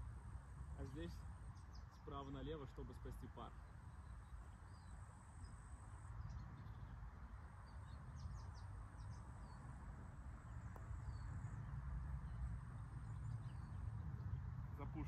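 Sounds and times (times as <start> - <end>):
wind rumbling on microphone: 2.8 - 15.0.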